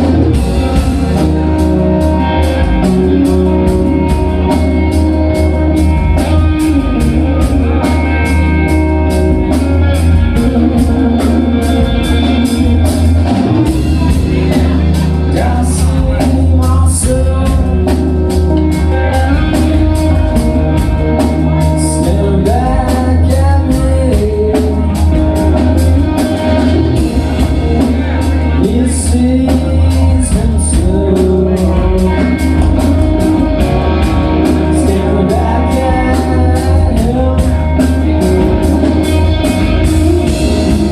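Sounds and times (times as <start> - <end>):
drums beating: 0.0 - 40.9
electric guitar: 0.0 - 40.9
person singing: 0.0 - 40.9
rock band playing live: 0.0 - 40.9.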